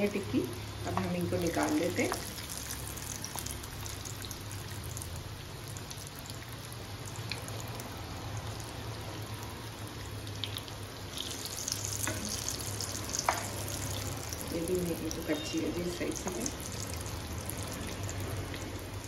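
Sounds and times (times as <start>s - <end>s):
kebabs sizzling in hot oil: 0.0s - 19.0s.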